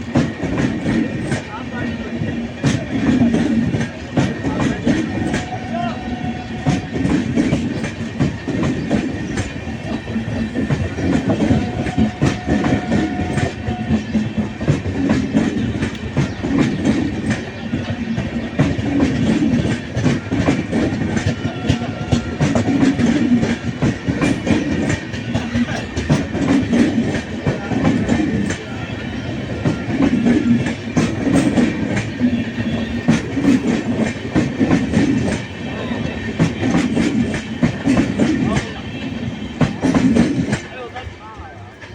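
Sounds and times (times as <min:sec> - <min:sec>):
train rumble: 0:00.0 - 0:41.9
train wheels clattering: 0:00.0 - 0:41.9.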